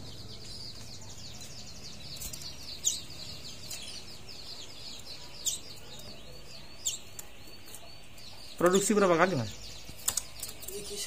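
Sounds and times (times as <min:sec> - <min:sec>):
canary singing trill: 0:00.0 - 0:11.0
sharp bird chirps: 0:00.0 - 0:11.0.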